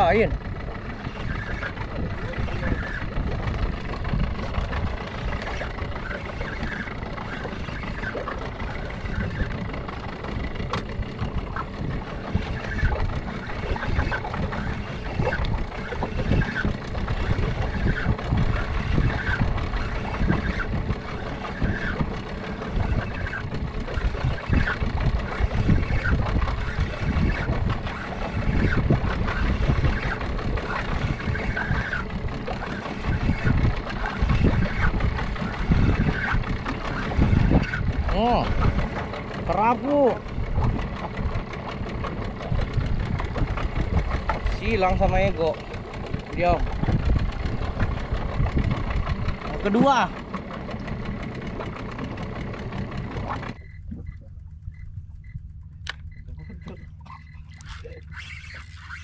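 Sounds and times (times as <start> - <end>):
wind buffeting microphone: 0.0 - 59.0
fishing reel ticking: 0.9 - 50.2, 50.8 - 59.0.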